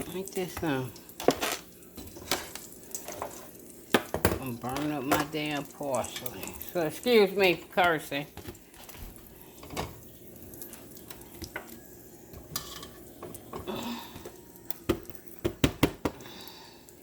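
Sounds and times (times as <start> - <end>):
utensils clattering against pots: 0.0 - 16.6.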